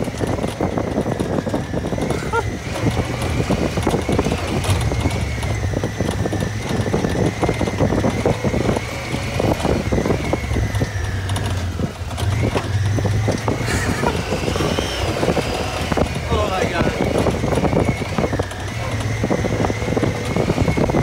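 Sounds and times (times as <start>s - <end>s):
knocks and rattles of vehicle: 0.0s - 21.0s
vehicle engine running with whine: 0.0s - 21.0s.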